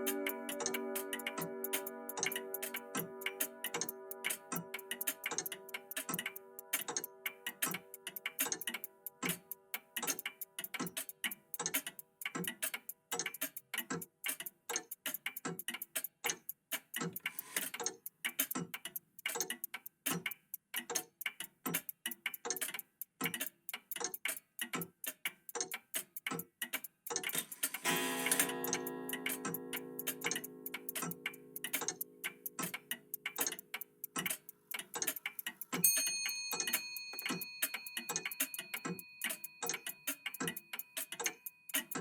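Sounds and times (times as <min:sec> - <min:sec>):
mechanical clocks ticking: 0:00.0 - 0:42.0.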